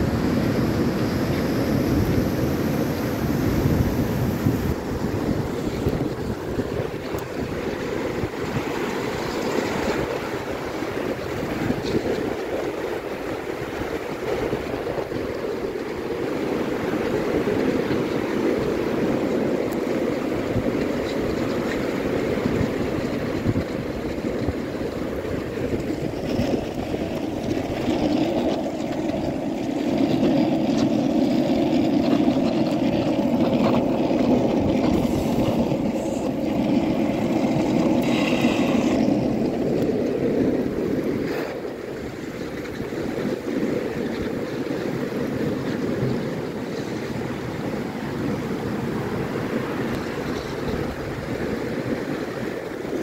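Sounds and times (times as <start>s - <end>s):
river rushing over boulders: 0.0s - 53.0s.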